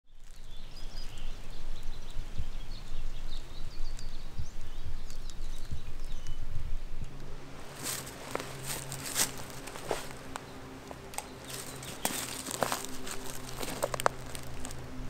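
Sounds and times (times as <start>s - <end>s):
small birds chirping: 0.1s - 15.0s
background hiss: 0.4s - 15.0s.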